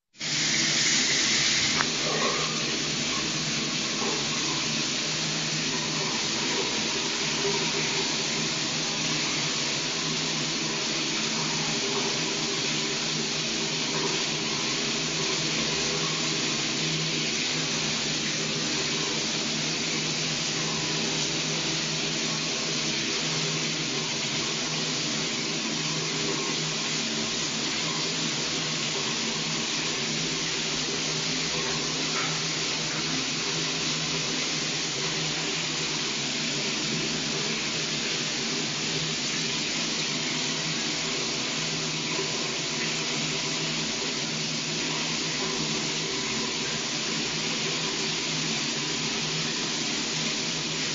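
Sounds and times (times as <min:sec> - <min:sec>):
shower water spraying: 0:00.2 - 0:50.9.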